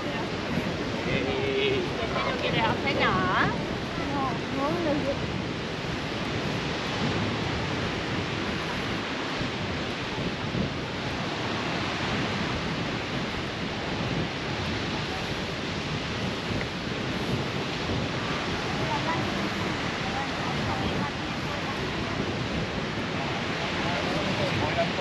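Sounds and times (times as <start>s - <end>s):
surf washing onto sand: 0.0s - 25.0s
wind gusting across microphone: 0.0s - 25.0s.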